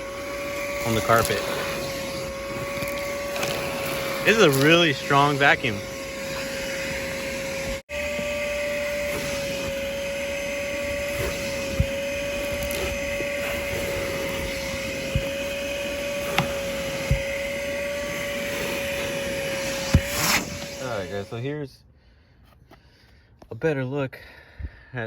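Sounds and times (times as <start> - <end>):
shop vacuum whining: 0.0 - 21.6.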